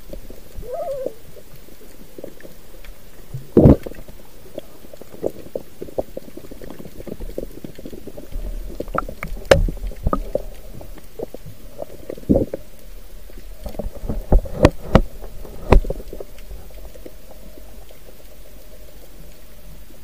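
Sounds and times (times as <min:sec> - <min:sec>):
muffled underwater water rumble: 0:00.0 - 0:20.0.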